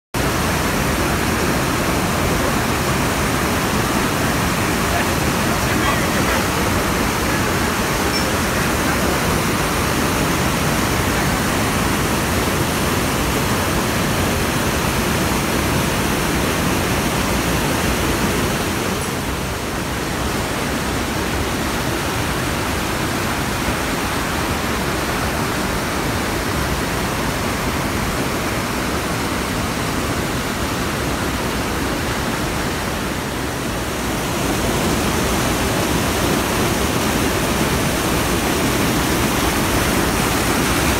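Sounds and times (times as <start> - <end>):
stream rushing over boulders: 0.2 - 40.9.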